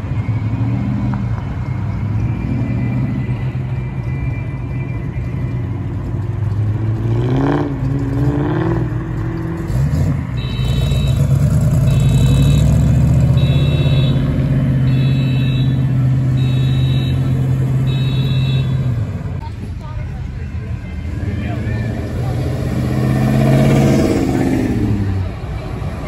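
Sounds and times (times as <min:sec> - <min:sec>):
car engine revving and rumbling: 0:00.0 - 0:26.0.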